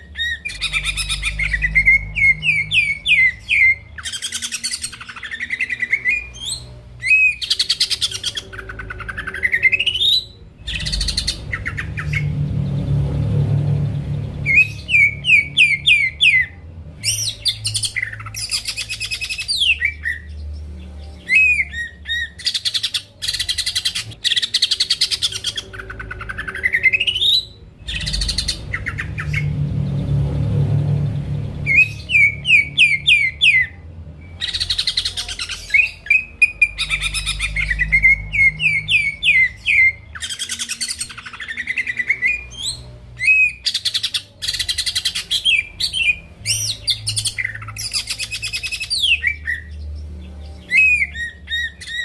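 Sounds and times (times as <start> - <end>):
bird singing trills and whistles: 0.0 - 30.2, 30.8 - 52.0.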